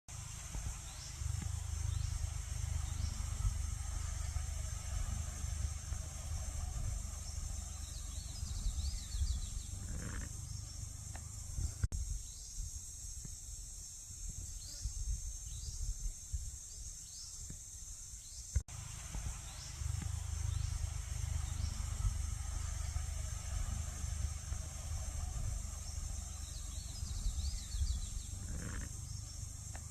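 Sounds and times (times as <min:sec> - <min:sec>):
steady high hiss: 0:00.1 - 0:29.9
wind on microphone: 0:00.2 - 0:17.2, 0:18.8 - 0:29.9.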